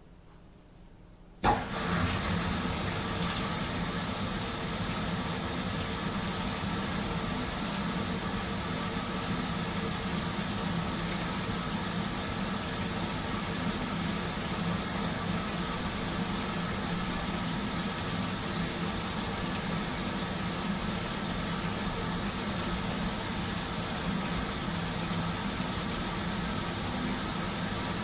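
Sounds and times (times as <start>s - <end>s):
washing machine running: 1.4s - 28.0s.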